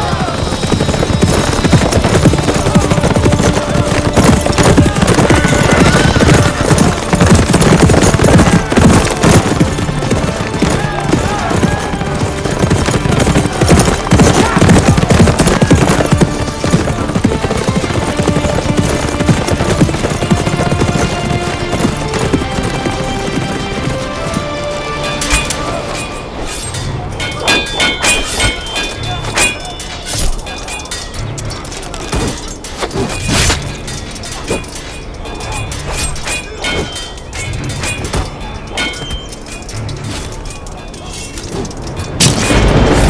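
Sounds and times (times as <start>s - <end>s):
dramatic film music: 0.0s - 43.0s
horses galloping: 0.0s - 43.0s.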